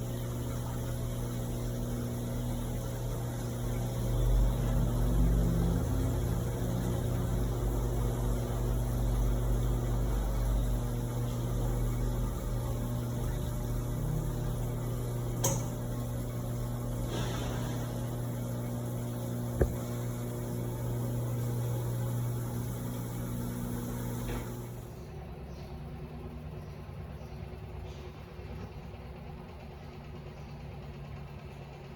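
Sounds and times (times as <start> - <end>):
washing machine motor humming: 0.0 - 31.9.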